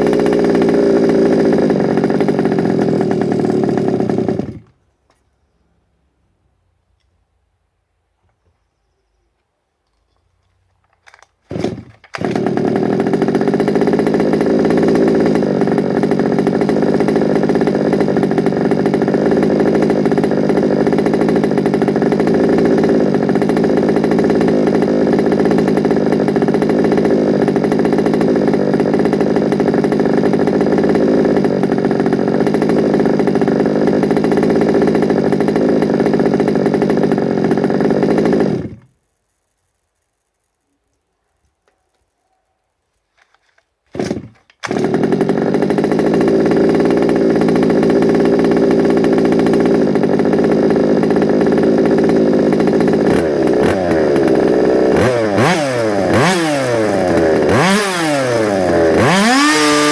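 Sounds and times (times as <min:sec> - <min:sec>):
small two-stroke engine running: 0:00.0 - 0:04.8, 0:11.5 - 0:39.0, 0:43.9 - 0:59.9.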